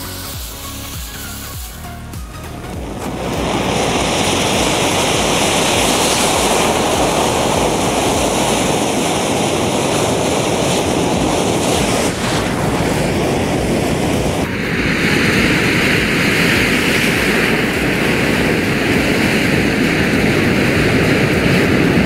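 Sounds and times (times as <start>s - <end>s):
flame jet rushing hiss: 0.0s - 1.9s, 2.6s - 22.0s.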